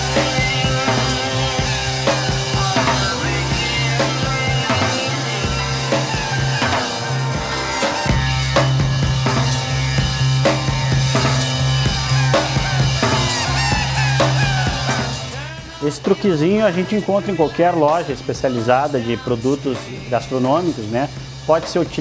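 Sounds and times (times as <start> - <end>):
bass line: 0.0 - 22.0
drum kit beat: 0.0 - 22.0.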